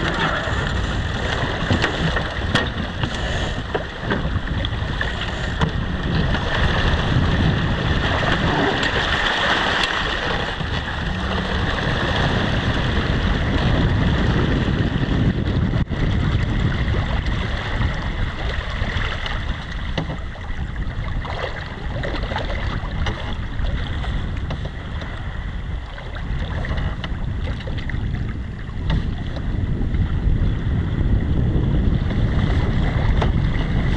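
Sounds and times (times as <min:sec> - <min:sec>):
water rushing past hull: 0:00.0 - 0:33.9
wind buffeting microphone: 0:00.0 - 0:33.9.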